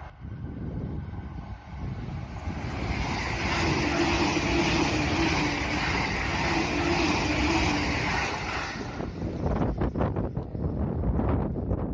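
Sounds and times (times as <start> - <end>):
electric train rushing past: 0.0 - 10.3.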